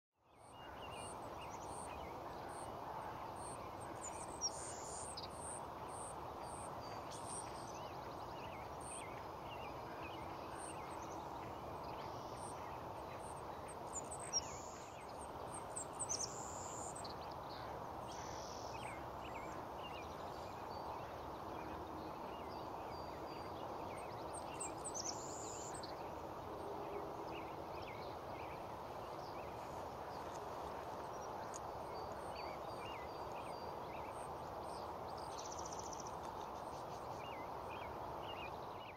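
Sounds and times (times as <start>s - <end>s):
steady background hiss: 0.2s - 38.9s.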